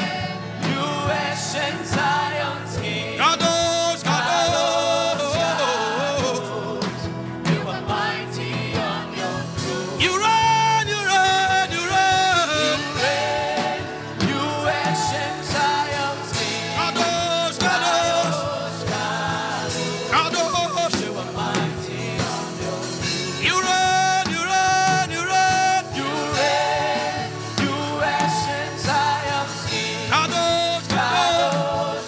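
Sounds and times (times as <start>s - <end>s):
instrumental accompaniment: 0.0s - 32.0s
voices singing a chant: 0.0s - 32.0s.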